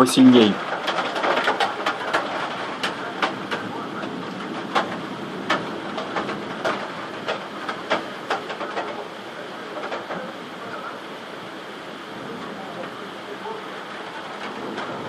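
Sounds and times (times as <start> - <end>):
raindrops tapping a hard surface: 0.0 - 11.5, 12.1 - 15.0
steady hiss of heavy rain: 0.0 - 15.0.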